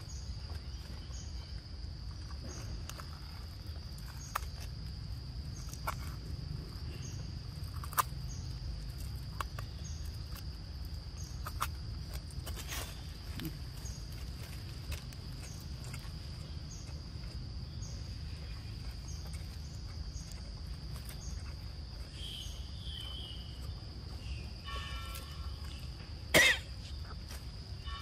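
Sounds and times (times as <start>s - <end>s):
insects droning: 0.0s - 28.0s
low outdoor rumble: 0.0s - 28.0s.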